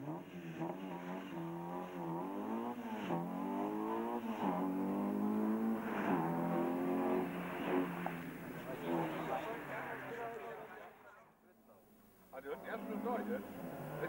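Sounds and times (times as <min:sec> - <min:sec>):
car engine revving: 0:00.0 - 0:10.6, 0:12.4 - 0:14.0.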